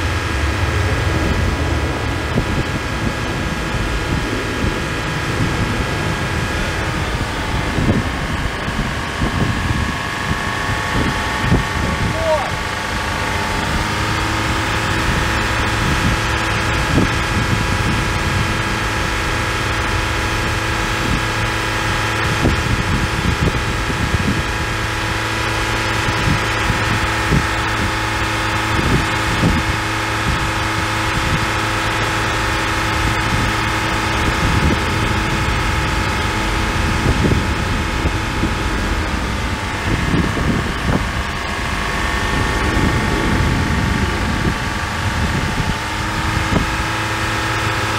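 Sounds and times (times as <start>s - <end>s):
engine idling: 0.0s - 47.9s
wind buffeting microphone: 0.0s - 47.9s.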